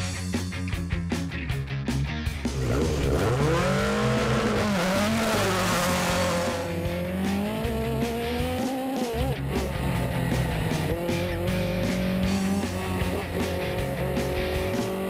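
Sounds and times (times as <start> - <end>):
racing car engine accelerating: 2.5 - 15.0.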